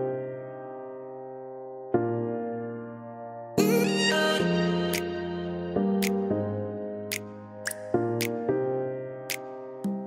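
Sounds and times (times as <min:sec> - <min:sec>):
soft instrumental background music: 0:00.0 - 0:10.0.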